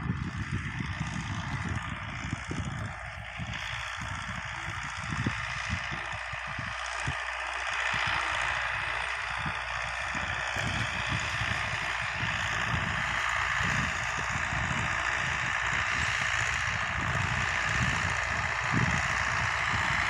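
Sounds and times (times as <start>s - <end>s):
wind on microphone: 0.0s - 7.2s, 7.9s - 20.0s
distant tractor engine running: 0.0s - 20.0s.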